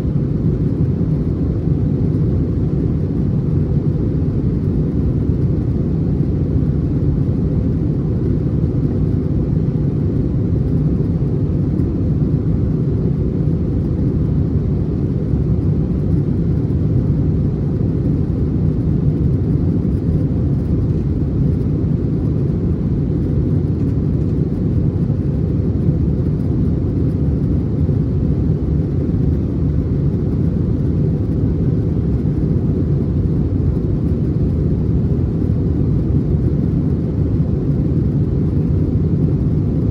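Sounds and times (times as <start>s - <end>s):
jet engine and airflow rumble: 0.0s - 39.9s.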